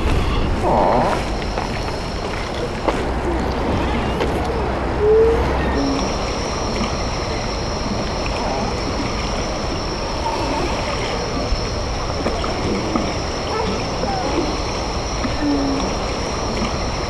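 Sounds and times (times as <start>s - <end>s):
water and wind wash: 0.0s - 17.0s.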